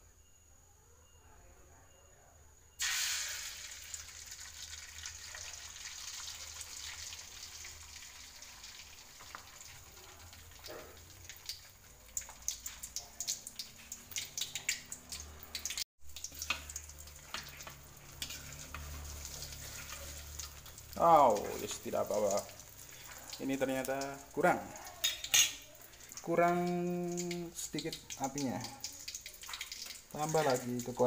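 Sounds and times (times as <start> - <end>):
egg sizzling in oil: 2.8 - 31.0
oil popping and crackling: 2.8 - 31.0.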